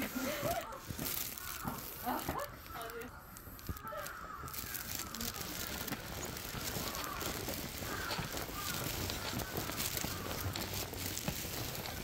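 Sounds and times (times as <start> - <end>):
steady outdoor hiss: 0.0 - 12.0
crow cawing: 0.3 - 12.0.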